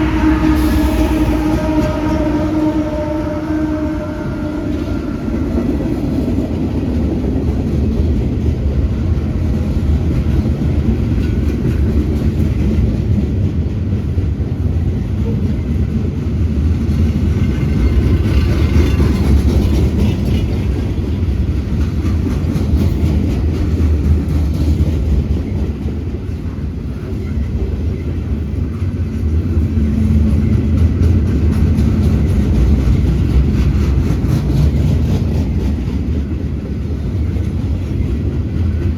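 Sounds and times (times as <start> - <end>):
freight train rumbling past: 0.0 - 38.9
rhythmic clicking of train wheels: 0.0 - 38.9.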